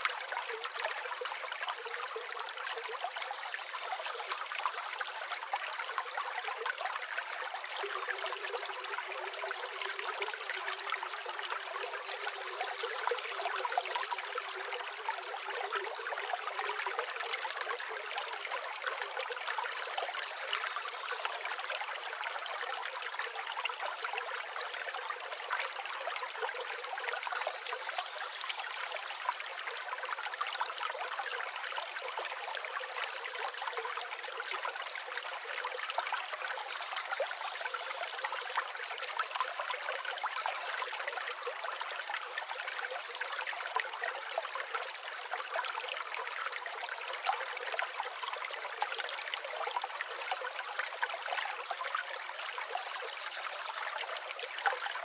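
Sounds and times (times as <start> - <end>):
stream water flowing over rocks: 0.0 - 55.0.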